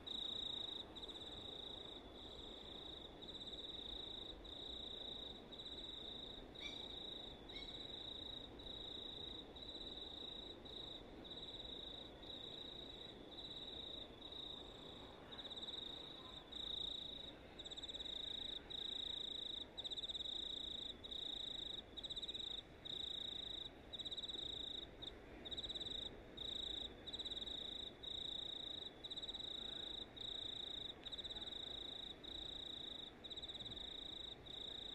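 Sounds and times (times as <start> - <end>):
cricket chirping: 0.0 - 34.9
faint low background noise: 0.0 - 34.9.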